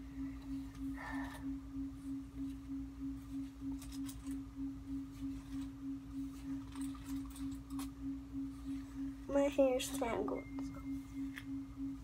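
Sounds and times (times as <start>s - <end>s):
low hum: 0.0s - 12.0s
throbbing humming tone: 0.0s - 12.0s.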